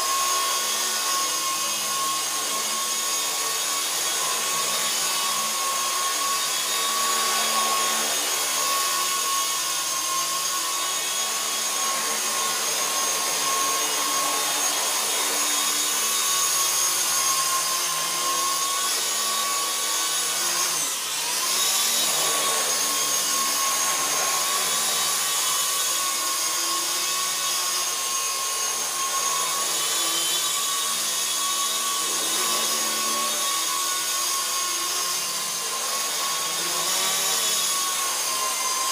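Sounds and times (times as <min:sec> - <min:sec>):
toy helicopter motors whining: 0:00.0 - 0:38.9.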